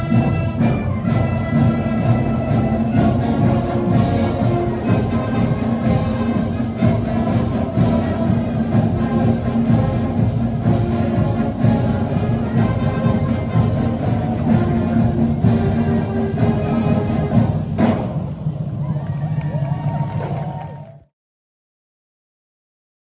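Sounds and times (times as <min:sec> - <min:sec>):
marching band playing: 0:00.0 - 0:19.3.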